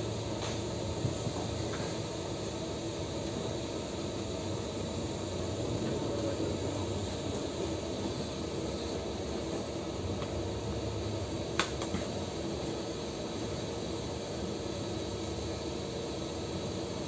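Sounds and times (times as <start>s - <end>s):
welding hiss and hum: 0.0s - 17.0s.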